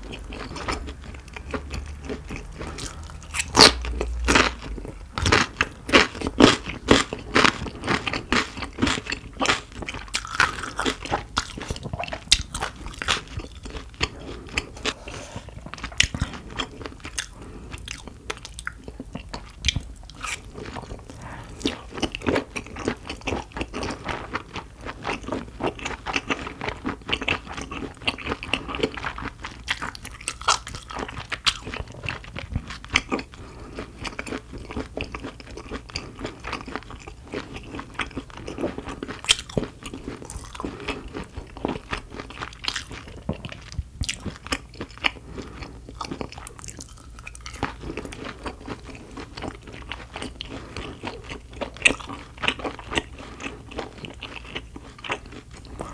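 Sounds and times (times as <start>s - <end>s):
person chewing and crunching food: 0.0s - 55.9s.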